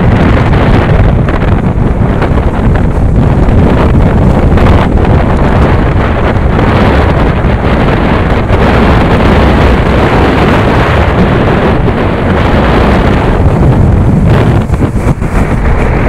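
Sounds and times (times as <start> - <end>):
road noise: 0.0 - 16.0
wind rush over microphone: 0.0 - 16.0.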